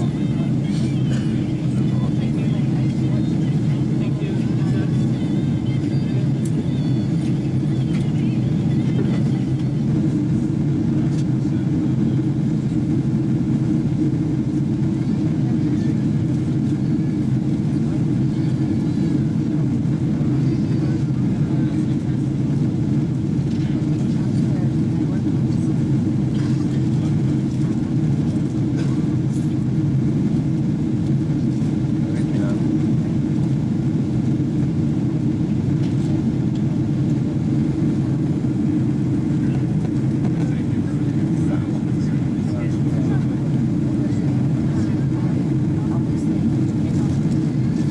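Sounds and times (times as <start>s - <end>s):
airliner cabin airflow and engines: 0.0s - 47.9s.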